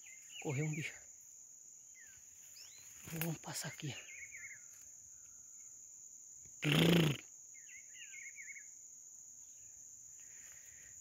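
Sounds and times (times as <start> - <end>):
high-pitched insect drone: 0.0 - 11.0
small birds twittering: 0.0 - 11.0.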